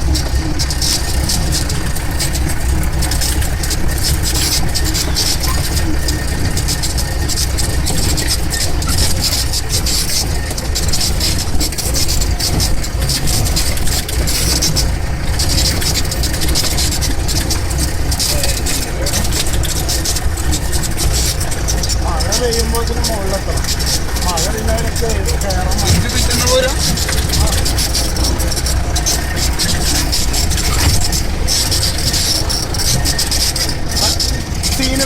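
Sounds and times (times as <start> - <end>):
car engine running while driving: 0.0 - 35.0.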